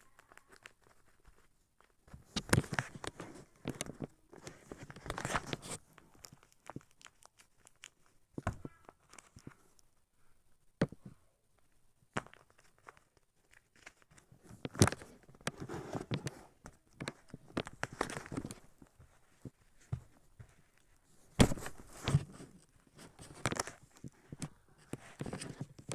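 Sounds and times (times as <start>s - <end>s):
paper rustling: 0.0s - 9.7s, 12.2s - 25.9s.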